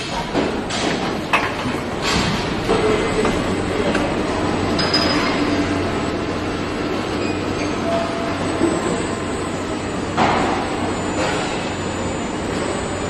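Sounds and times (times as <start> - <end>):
assembly line machinery: 0.0 - 13.0.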